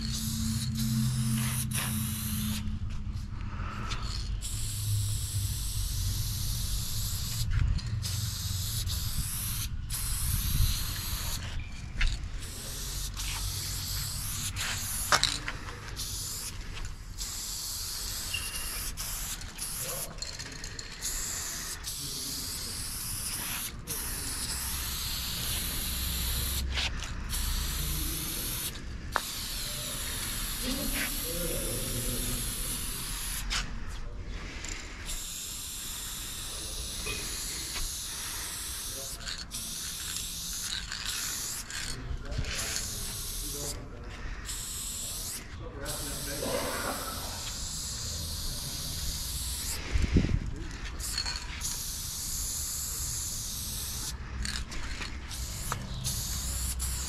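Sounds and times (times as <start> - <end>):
spray paint can hissing: 0.0 - 33.7, 34.6 - 57.0.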